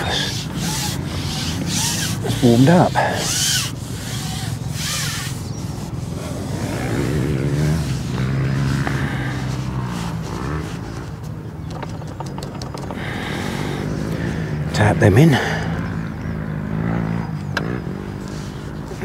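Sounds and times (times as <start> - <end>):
motorbike engines revving: 0.0 - 19.0.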